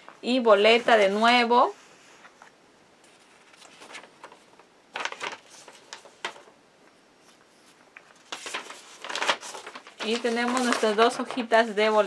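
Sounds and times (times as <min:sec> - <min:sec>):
paper rustling: 0:00.0 - 0:01.5, 0:02.1 - 0:06.6, 0:07.2 - 0:12.0.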